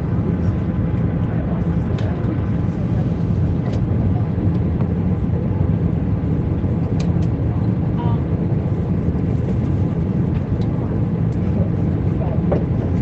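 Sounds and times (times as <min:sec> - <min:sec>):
cabin engine and airflow rumble: 0:00.0 - 0:13.0.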